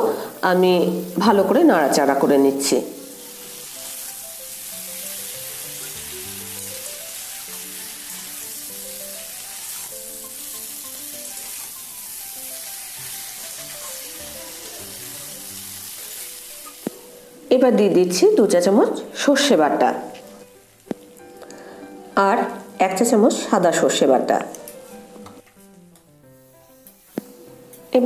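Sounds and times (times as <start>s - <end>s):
beans sizzling in oil: 0.0s - 28.0s
soft background music: 0.0s - 28.0s.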